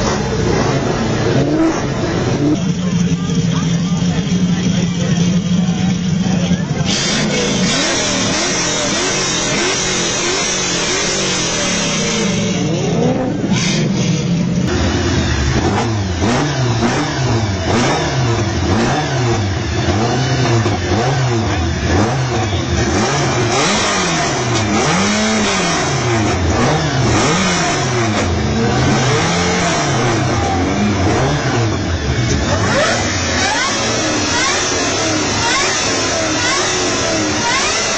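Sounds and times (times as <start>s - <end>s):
supercar engines revving: 0.0s - 37.9s.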